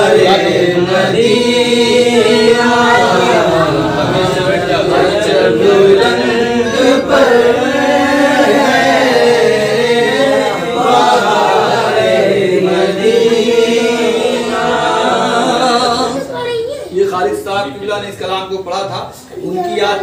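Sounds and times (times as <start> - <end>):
men chanting: 0.0 - 16.4.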